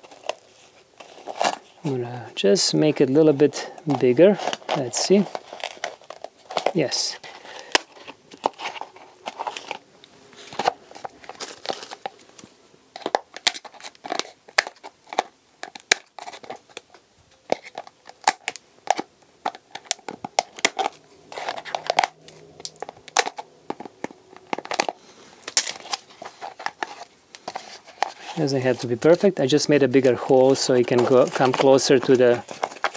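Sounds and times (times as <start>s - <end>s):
plastic cup crinkling: 0.0s - 32.9s.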